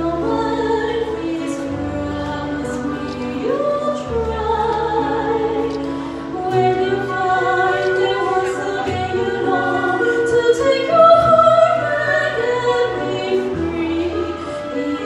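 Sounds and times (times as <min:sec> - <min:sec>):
instrumental accompaniment: 0:00.0 - 0:15.0
operatic singing: 0:00.0 - 0:15.0.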